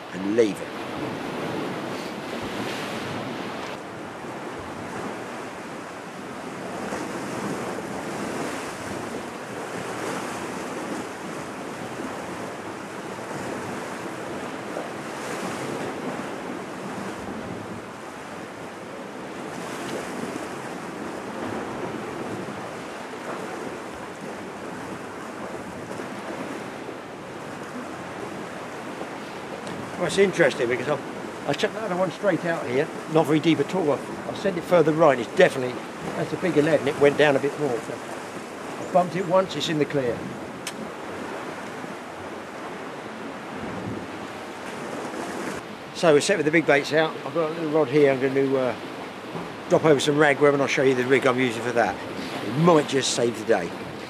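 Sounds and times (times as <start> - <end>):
sea waves washing against rocks: 0.0 - 54.0
wind buffeting microphone: 0.0 - 54.0.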